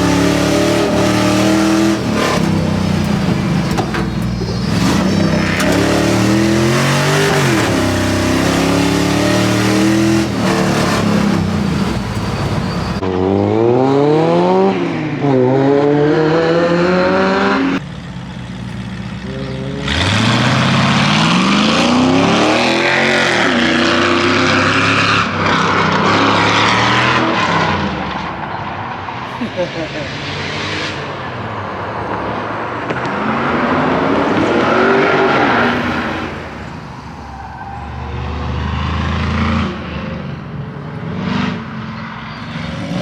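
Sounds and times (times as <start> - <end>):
truck engine revving hard: 0.0 - 28.4, 32.8 - 43.0.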